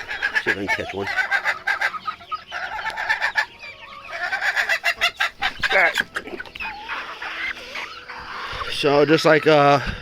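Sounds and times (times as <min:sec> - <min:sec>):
chickens clucking and squawking: 0:00.0 - 0:10.0.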